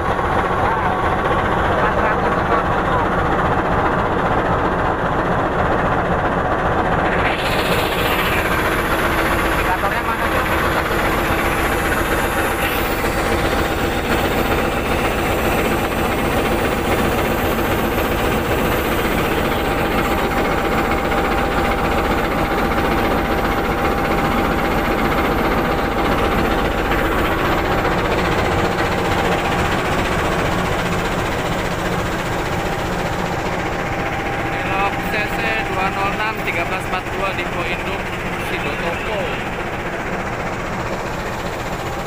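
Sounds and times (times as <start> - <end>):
locomotive engine idling: 0.0 - 42.0
thin steady whine: 0.0 - 42.0.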